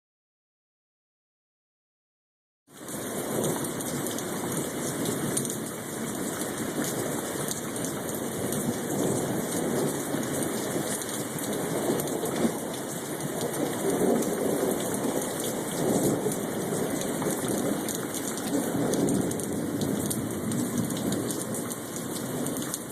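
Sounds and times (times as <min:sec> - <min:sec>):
heavy rain pouring: 0:02.7 - 0:22.9.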